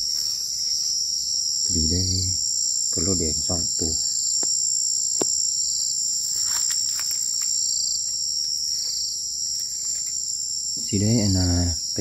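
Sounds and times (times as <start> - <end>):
crickets and night insects: 0.0 - 12.0.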